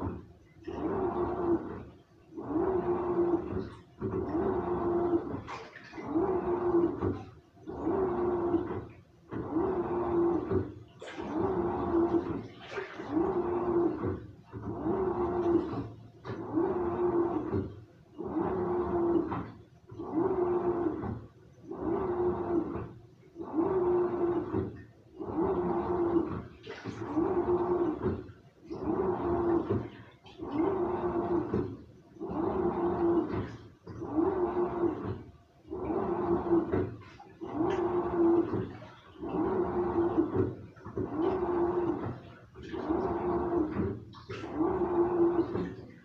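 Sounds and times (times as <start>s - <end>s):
washing machine motor hum: 0.0s - 46.0s
water sloshing: 0.0s - 46.0s.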